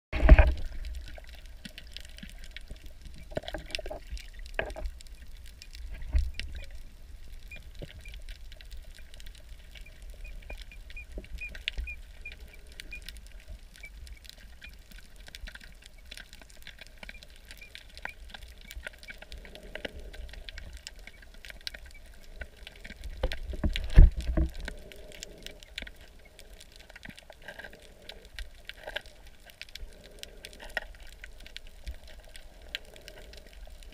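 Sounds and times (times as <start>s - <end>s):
underwater low rumble: 0.1s - 33.9s
underwater crackle of clicks: 0.2s - 33.9s.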